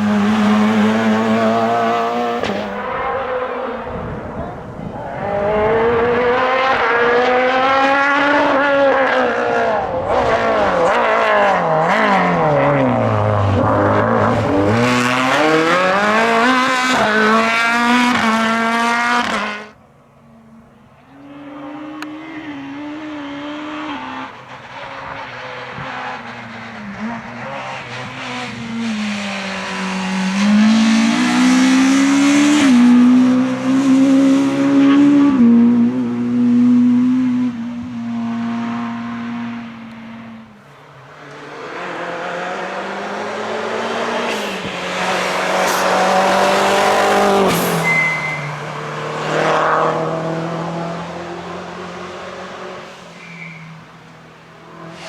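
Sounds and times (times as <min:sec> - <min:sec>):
rally car engine upshifting: 0:00.0 - 0:19.8, 0:21.3 - 0:55.0
second rally car engine approaching: 0:00.0 - 0:53.0.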